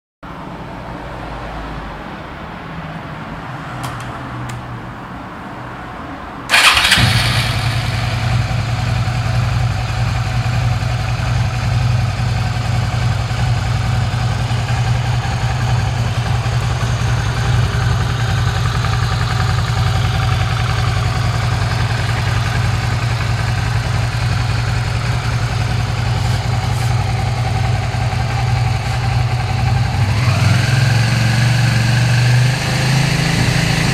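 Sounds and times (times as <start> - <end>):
motorcycle engine starting and idling: 6.5 - 33.9.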